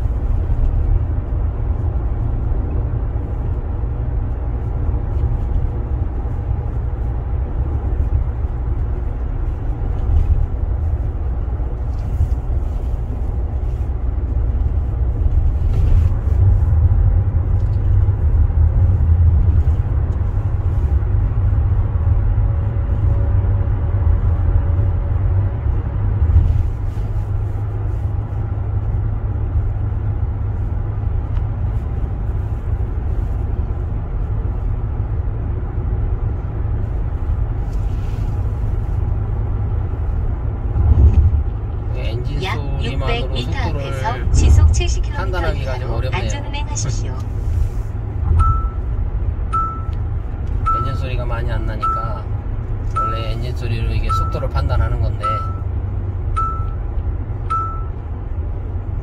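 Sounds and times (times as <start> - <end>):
car cabin road and engine rumble: 0.0 - 59.0.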